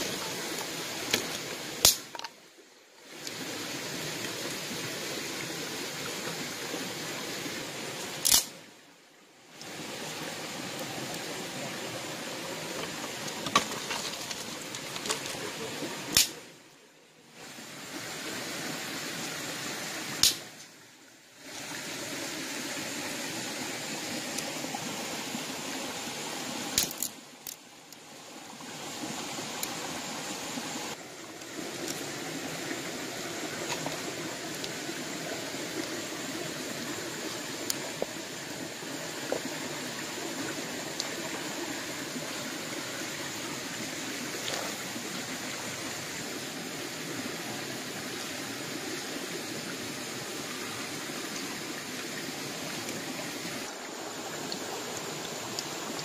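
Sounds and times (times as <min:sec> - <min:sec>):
river rushing over stones: 0:00.0 - 0:56.0.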